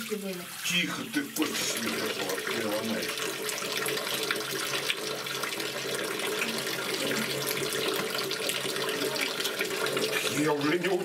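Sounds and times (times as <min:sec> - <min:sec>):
bathtub tap running: 0:00.0 - 0:11.0.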